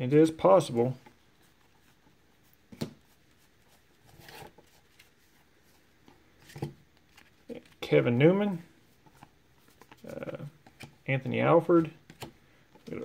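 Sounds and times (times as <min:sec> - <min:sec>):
cards rustling: 0:00.7 - 0:13.0.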